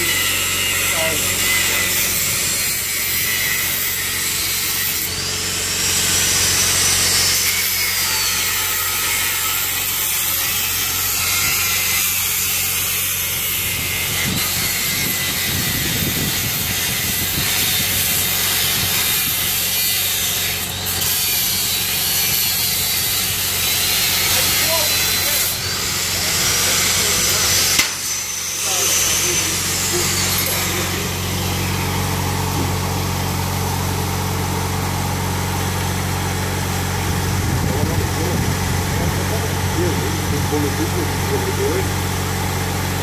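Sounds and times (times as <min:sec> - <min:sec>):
angle grinder cutting metal: 0:00.0 - 0:43.0.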